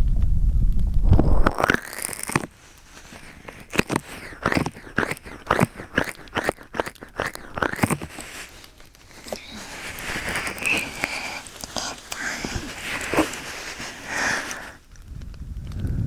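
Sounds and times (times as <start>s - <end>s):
crackling and rustling on microphone: 0.0s - 16.0s.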